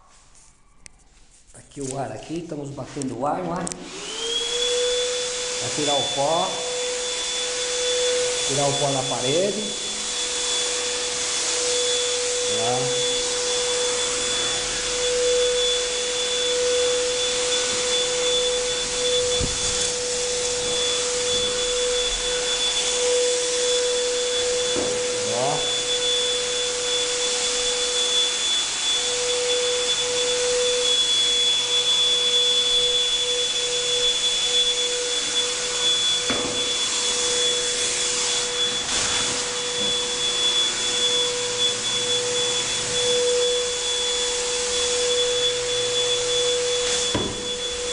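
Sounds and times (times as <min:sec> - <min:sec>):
air blower rushing hiss: 0:01.9 - 0:47.9
blower motor whine: 0:02.4 - 0:47.9.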